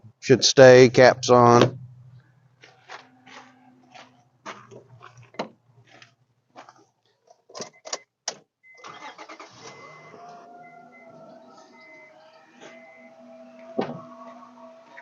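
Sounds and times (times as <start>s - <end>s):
car engine starting and running: 0.6s - 6.6s, 7.6s - 15.0s.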